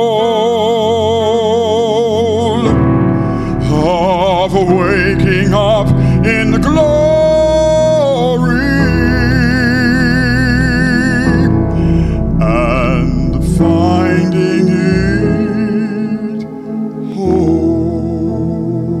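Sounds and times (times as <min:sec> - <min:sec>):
instrumental accompaniment: 0:00.0 - 0:19.0
man singing with vibrato: 0:00.0 - 0:19.0.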